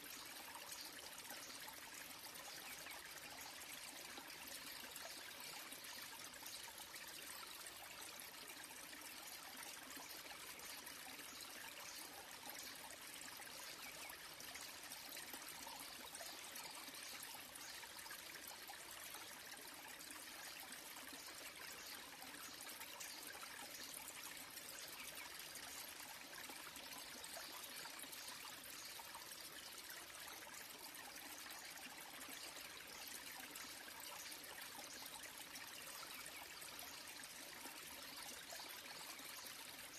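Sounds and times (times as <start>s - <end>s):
waterfall trickling and splashing: 0.0s - 39.9s.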